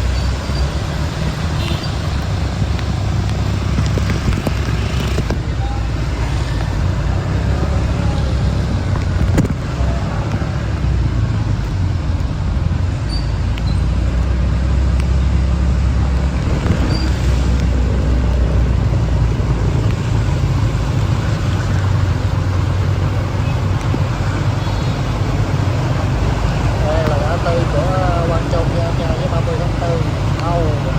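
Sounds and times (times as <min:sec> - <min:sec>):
low rumble of vehicle engines: 0:00.0 - 0:30.9
road traffic: 0:00.0 - 0:30.9.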